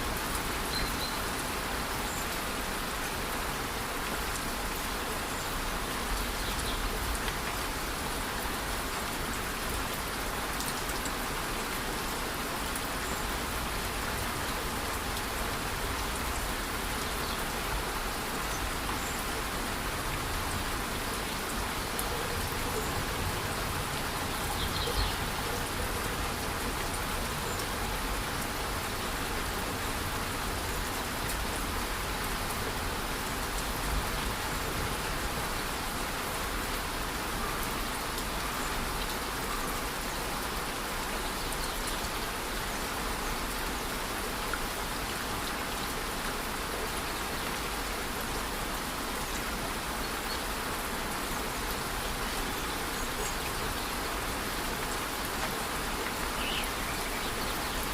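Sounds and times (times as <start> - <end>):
light rain: 0.0 - 57.9.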